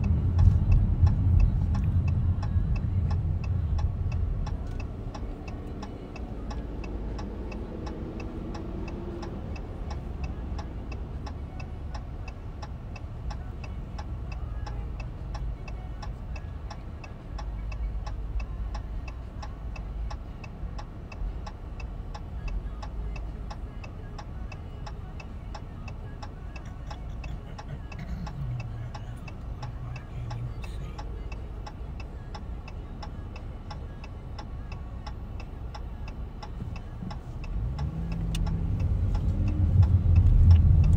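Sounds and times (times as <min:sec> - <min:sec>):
car idling rumble: 0:00.0 - 0:40.9
passing traffic: 0:00.0 - 0:40.9
turn signal ticking: 0:00.0 - 0:40.9.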